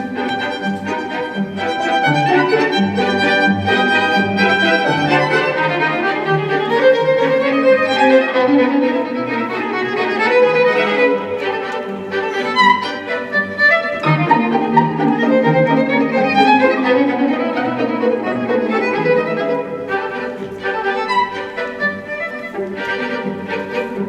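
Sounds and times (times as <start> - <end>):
cello line: 0.0 - 24.0
violin melody: 0.0 - 24.0.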